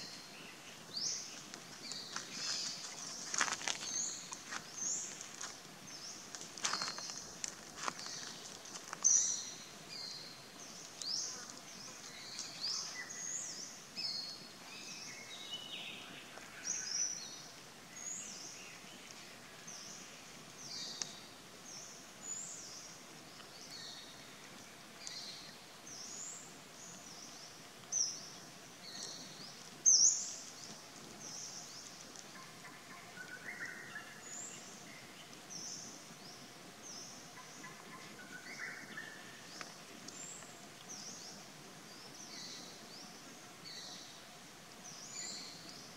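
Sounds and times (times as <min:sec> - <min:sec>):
birds chirping: 0:00.0 - 0:44.2
faint steady hum: 0:00.0 - 0:45.9.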